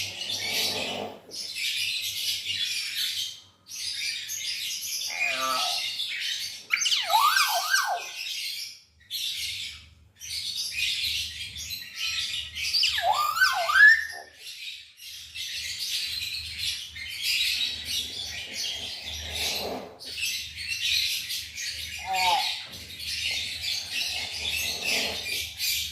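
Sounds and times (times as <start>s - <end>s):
high-pitched bird chirping: 0.0s - 8.6s, 9.4s - 14.6s, 15.2s - 25.9s.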